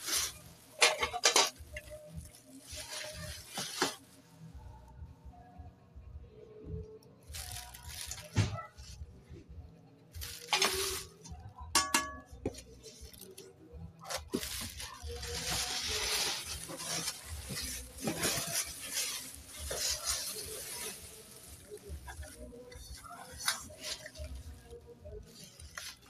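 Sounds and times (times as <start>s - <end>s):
plastic bag crinkling: 0.0s - 4.5s, 7.2s - 9.0s, 10.1s - 11.5s, 12.4s - 26.0s.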